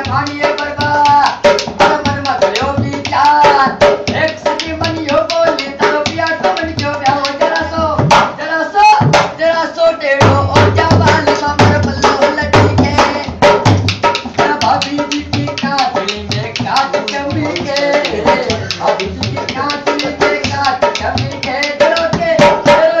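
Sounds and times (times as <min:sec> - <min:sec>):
hand drum playing fast rhythm: 0:00.0 - 0:23.0.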